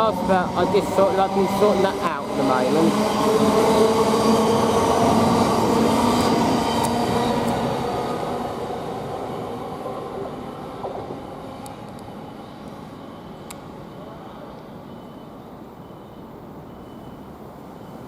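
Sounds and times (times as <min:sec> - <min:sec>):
train rolling noise: 0:00.0 - 0:18.0.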